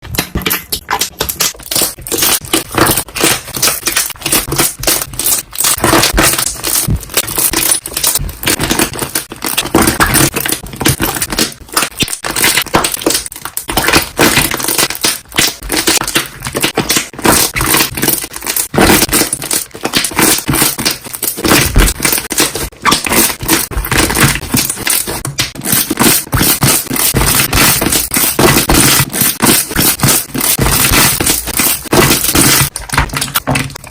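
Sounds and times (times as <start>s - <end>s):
air bubbles popping in slime: 0.0s - 33.9s.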